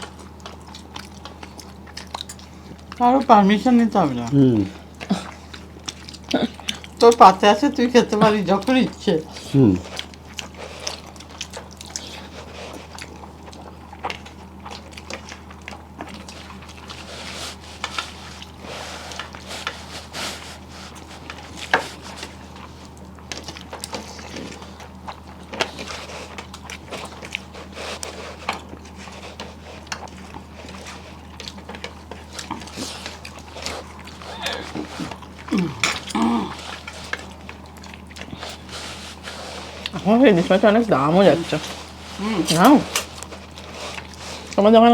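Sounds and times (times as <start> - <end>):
chewing and mouth noises: 0.0 - 44.9
low steady hum: 0.0 - 44.9.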